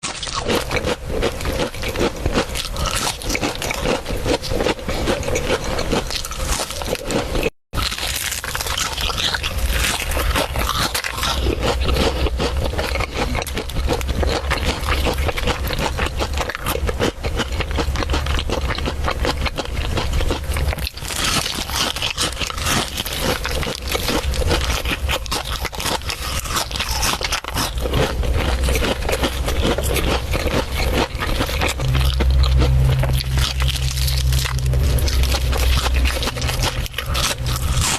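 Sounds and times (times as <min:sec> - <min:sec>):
crunching and chewing crispy food: 0:00.0 - 0:37.9.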